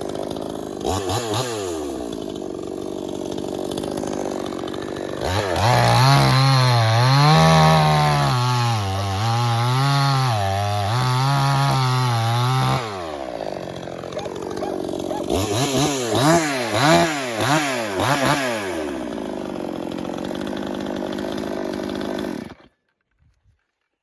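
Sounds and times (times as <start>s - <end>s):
chainsaw revving and idling: 0.0s - 22.8s.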